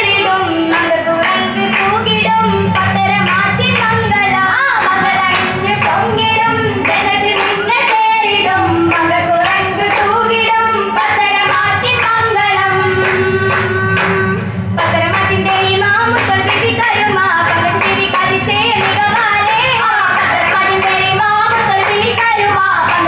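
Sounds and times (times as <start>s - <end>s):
girls' chorus singing through pa: 0.0s - 23.0s
rhythmic hand claps: 0.0s - 23.0s.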